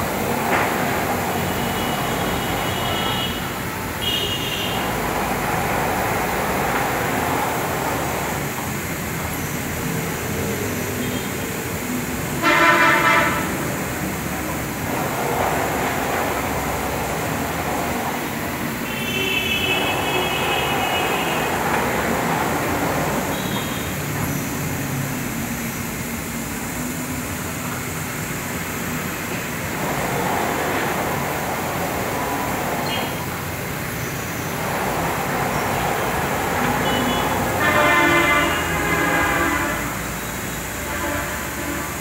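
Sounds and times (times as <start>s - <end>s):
machinery humming: 0.0s - 42.0s.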